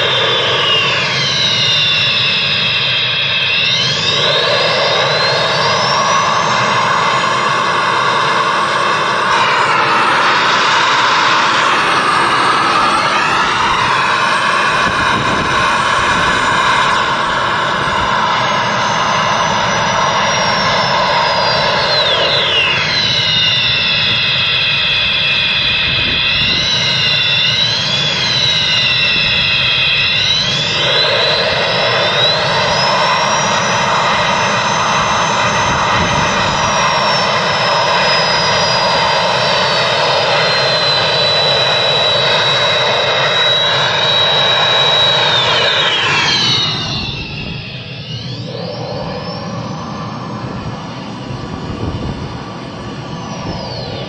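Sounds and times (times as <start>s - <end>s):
turbine whine with high whistle: 0.0s - 54.0s.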